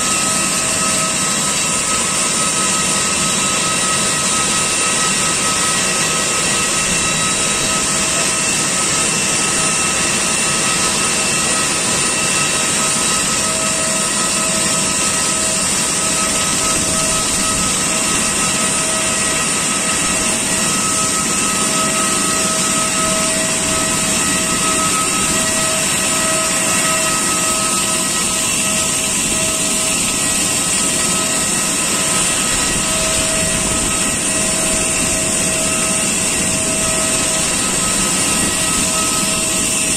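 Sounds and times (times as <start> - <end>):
aircraft turbine whine: 0.0 - 39.9.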